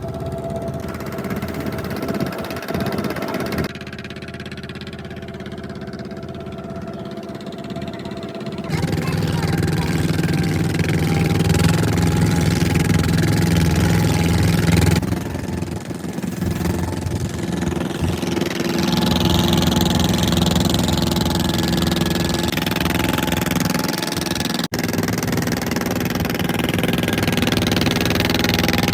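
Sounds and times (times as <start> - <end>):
boat engine running: 0.0 - 28.9.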